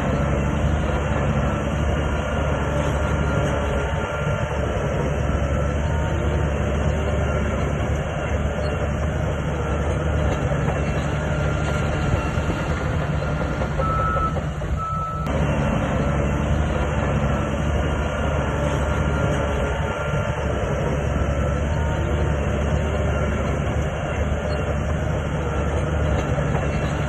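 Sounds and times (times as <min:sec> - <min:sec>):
bulldozer diesel engine under load: 0:00.0 - 0:27.0
steel tracks clattering: 0:00.0 - 0:27.0.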